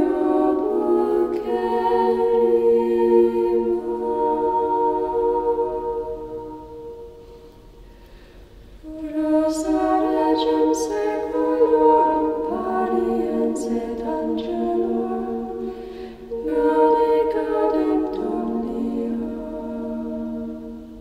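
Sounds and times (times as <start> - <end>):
unaccompanied choir singing: 0.0 - 7.6, 8.8 - 21.0.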